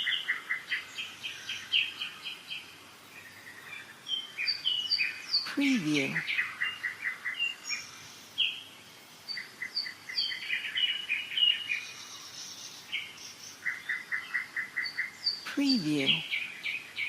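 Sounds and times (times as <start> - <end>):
faint background hiss: 0.0 - 17.0
songbirds singing: 0.0 - 17.0.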